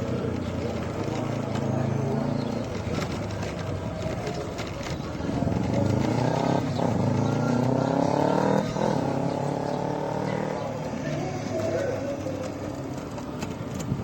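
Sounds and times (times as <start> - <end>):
vehicle engine accelerating: 0.0 - 14.0.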